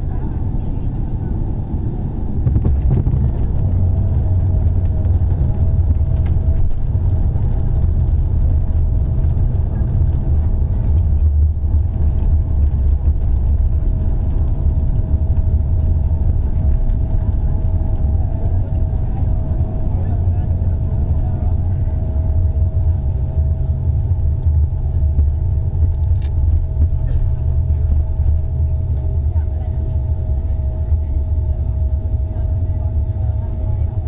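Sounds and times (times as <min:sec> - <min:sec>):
airplane cabin rumble: 0:00.0 - 0:34.0
thin steady whine: 0:00.0 - 0:34.0.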